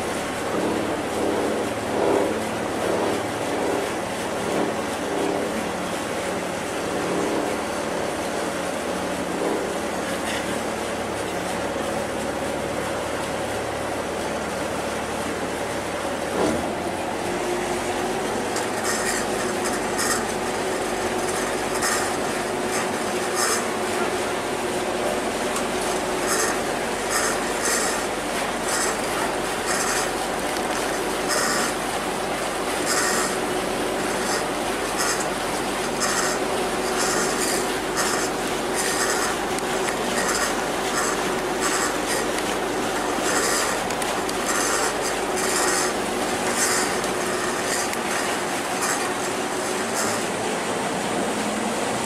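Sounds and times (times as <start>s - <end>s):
ferry engine humming: 0.0s - 52.0s
wind and water rushing: 0.0s - 52.0s.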